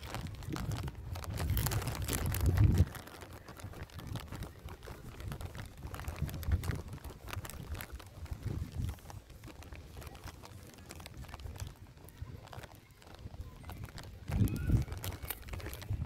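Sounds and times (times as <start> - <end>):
footsteps on asphalt: 0.0 - 16.0
low rumble on microphone: 0.0 - 16.0.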